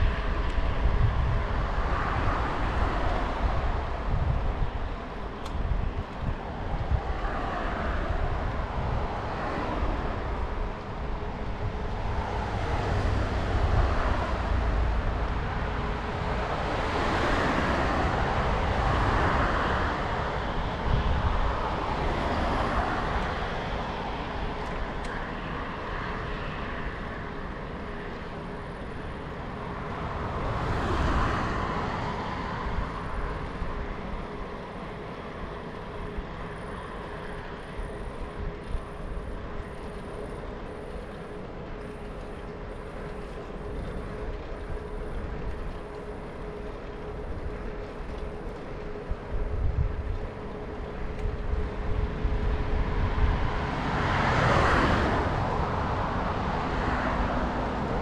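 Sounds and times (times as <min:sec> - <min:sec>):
rolling road noise: 0:00.0 - 0:58.0
wind buffeting microphone: 0:00.0 - 0:58.0.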